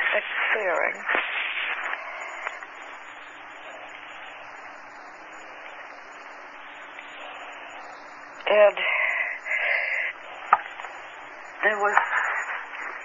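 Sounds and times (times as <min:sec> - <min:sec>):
tape hiss: 0:00.0 - 0:13.0.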